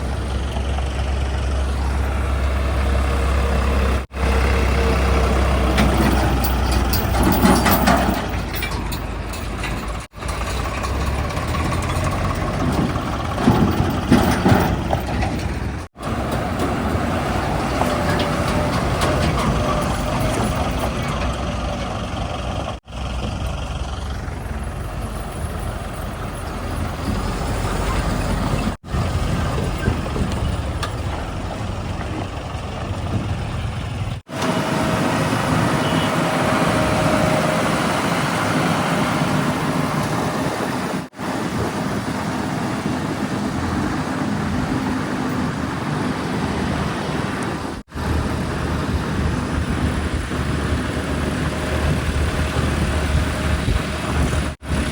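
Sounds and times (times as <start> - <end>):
diesel machinery engines running: 0.0 - 54.9.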